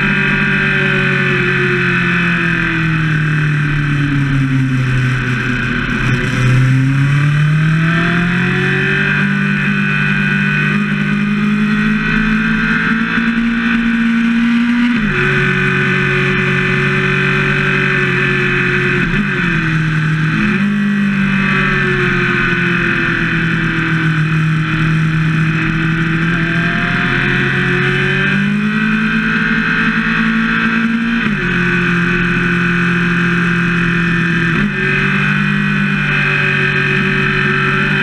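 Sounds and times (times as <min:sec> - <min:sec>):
motorcycle engine running: 0:00.0 - 0:38.0
wind and road rush: 0:00.0 - 0:38.0.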